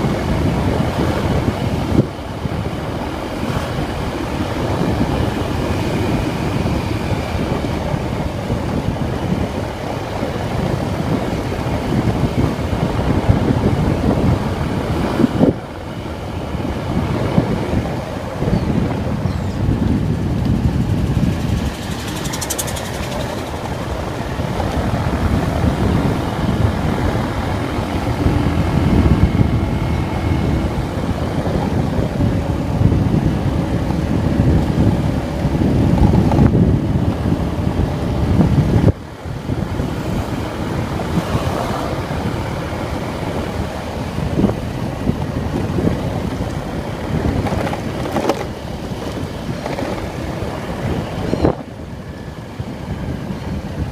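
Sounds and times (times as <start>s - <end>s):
motorcycle engine running: 0.0s - 51.4s
wind noise on microphone: 0.0s - 53.9s.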